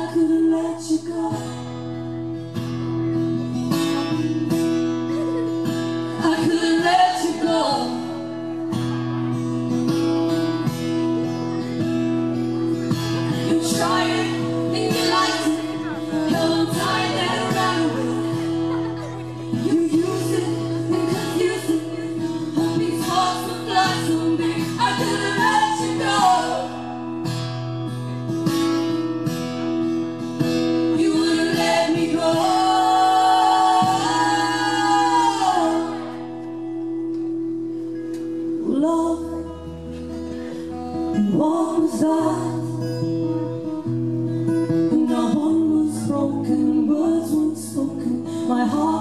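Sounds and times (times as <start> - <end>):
guitar: 0.0 - 49.0.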